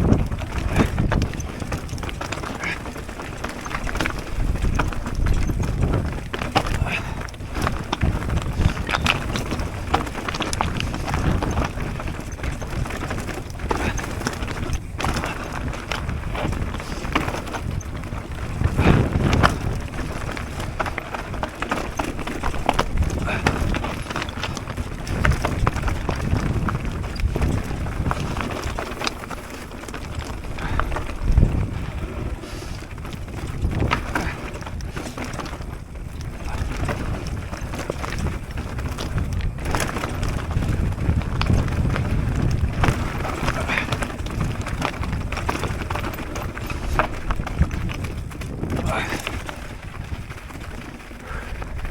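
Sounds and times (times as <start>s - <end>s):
bike rattling over bumps: 0.0s - 51.9s
tyres rumbling over dirt: 0.0s - 51.9s
wind rushing over microphone: 0.0s - 51.9s.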